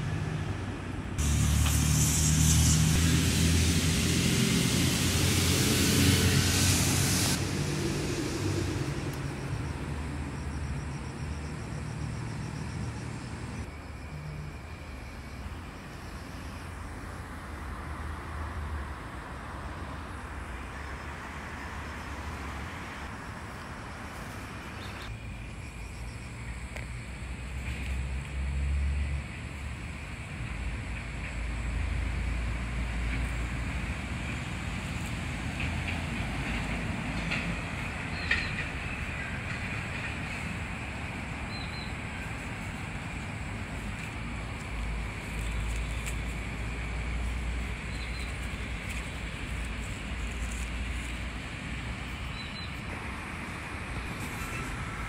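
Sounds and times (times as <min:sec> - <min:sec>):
distant traffic rumble: 0:00.0 - 0:55.0
steady outdoor hiss: 0:00.0 - 0:55.0.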